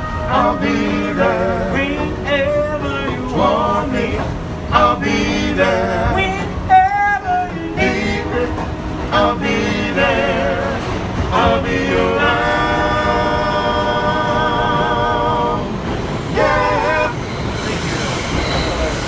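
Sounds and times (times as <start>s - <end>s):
voices singing a cappella: 0.0s - 18.9s
subway train rumbling: 0.0s - 19.0s.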